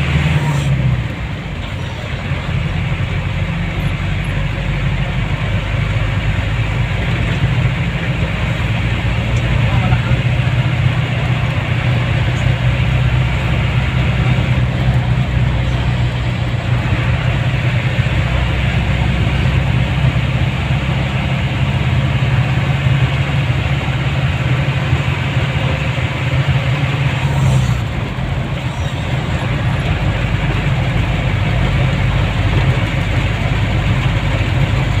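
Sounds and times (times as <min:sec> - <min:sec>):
road noise: 0:00.0 - 0:35.0
vehicle engine running: 0:00.0 - 0:35.0.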